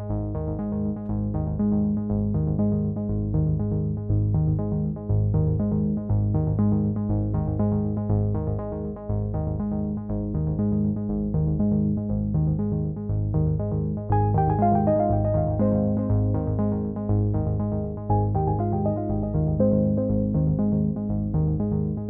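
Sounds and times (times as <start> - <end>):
synthesizer background music: 0.0 - 22.0.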